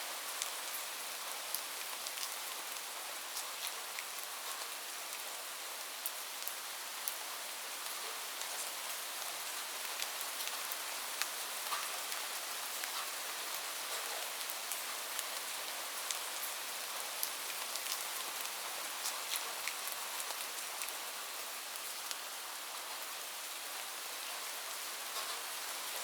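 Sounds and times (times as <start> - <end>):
steady rain hiss: 0.0 - 26.0
raindrops ticking on a surface: 0.2 - 23.1, 23.8 - 26.0.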